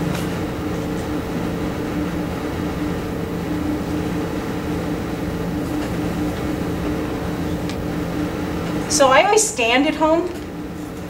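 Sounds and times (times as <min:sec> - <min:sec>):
mechanical hum with low tones: 0:00.0 - 0:11.0.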